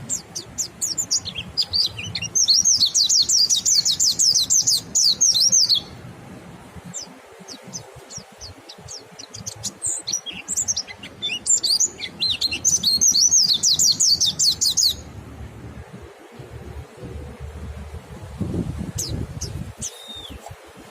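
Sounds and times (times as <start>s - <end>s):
rapid twittering birdsong: 0.0s - 6.1s, 6.8s - 20.9s.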